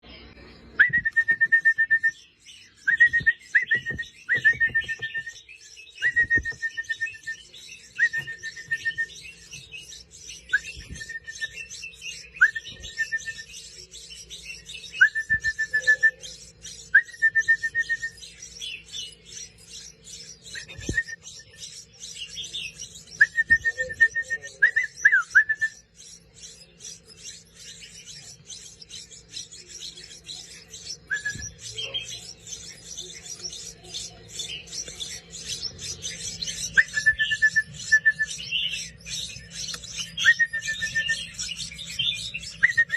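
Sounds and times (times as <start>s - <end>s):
young birds calling: 0.0s - 42.9s.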